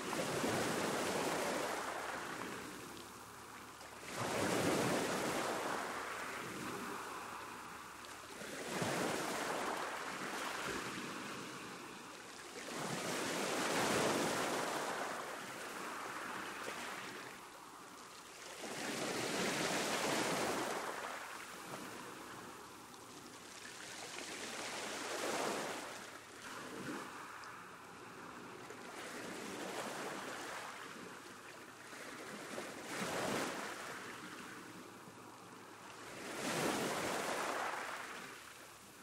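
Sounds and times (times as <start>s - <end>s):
sea waves breaking on beach: 0.0s - 39.0s.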